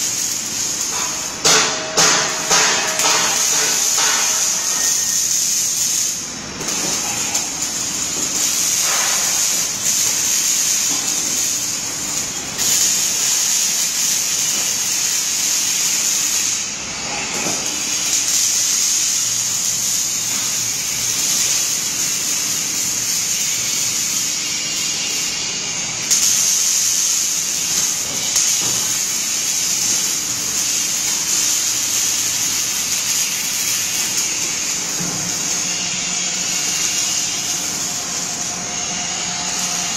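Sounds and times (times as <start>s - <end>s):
welding arc crackling hiss: 0.0s - 39.9s.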